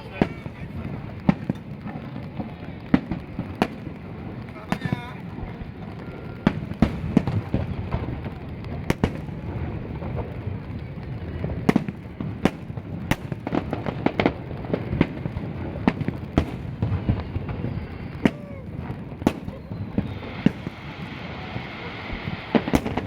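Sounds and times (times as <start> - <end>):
firework bangs: 0.0 - 23.0.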